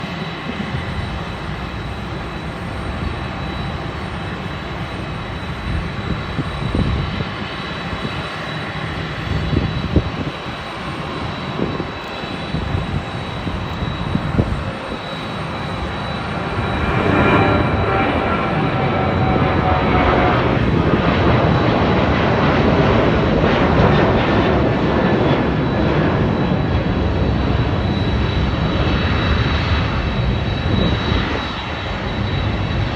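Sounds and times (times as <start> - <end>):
jet airliner taking off: 0.0 - 32.9.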